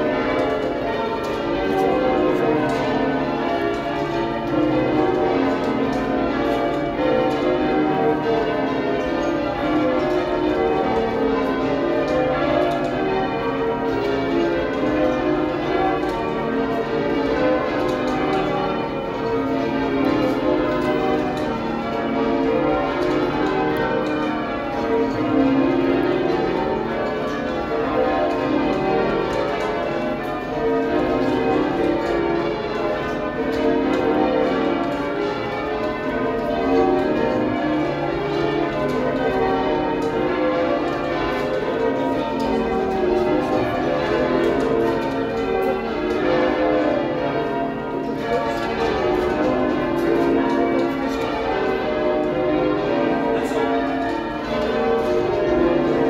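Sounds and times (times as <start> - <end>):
deep church bells ringing: 0.0 - 56.0.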